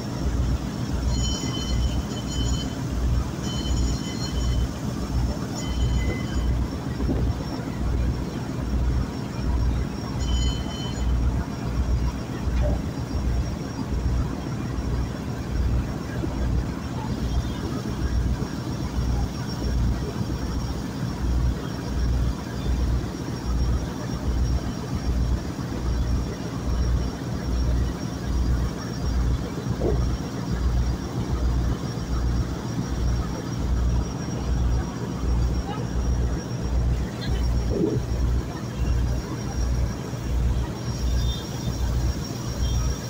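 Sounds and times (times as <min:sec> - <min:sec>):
boat engine throbbing: 0:00.0 - 0:43.0.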